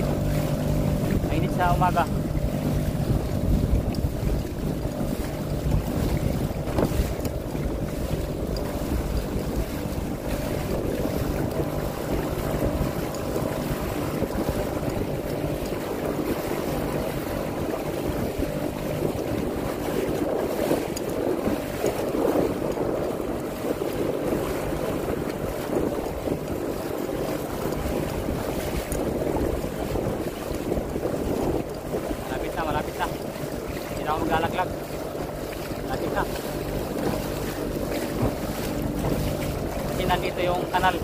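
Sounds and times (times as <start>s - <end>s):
boat motor running: 0.0s - 41.0s
water rushing past: 0.0s - 41.0s
wind buffeting microphone: 0.0s - 41.0s.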